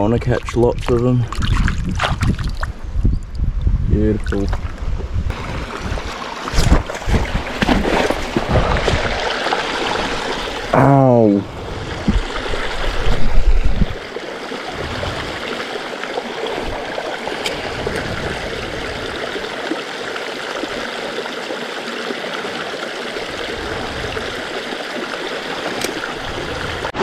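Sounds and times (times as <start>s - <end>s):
creek rushing over rocks: 5.3s - 27.0s.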